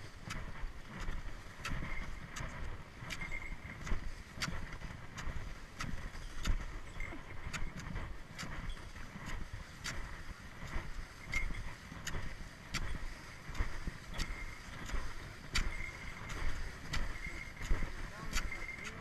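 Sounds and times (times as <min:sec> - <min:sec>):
skis crunching over crusted snow: 0:00.0 - 0:19.0.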